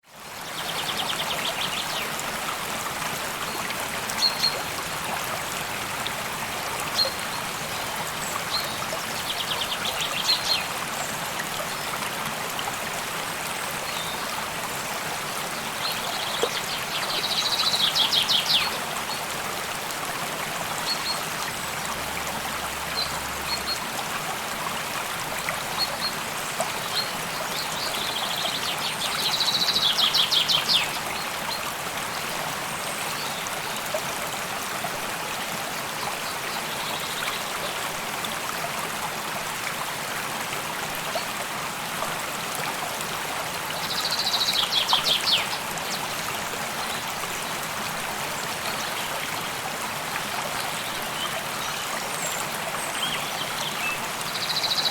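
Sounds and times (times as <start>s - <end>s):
stream running: 0.0s - 54.9s.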